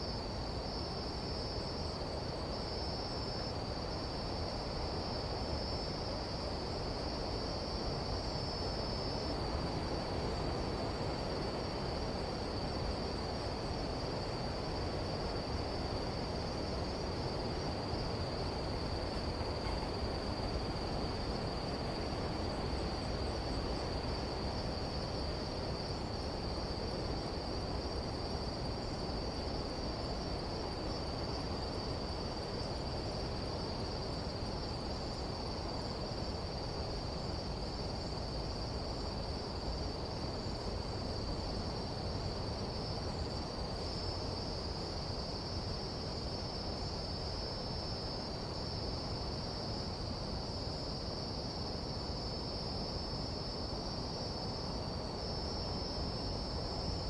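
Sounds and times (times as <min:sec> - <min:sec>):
higher insect trill: 0:00.0 - 0:57.0
insects trilling: 0:00.0 - 0:57.0.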